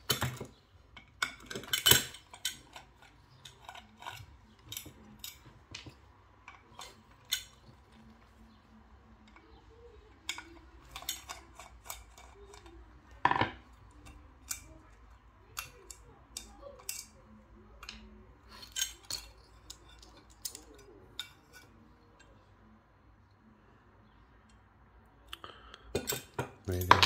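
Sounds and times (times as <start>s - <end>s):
small metal clicks and clinks: 0.0s - 22.5s.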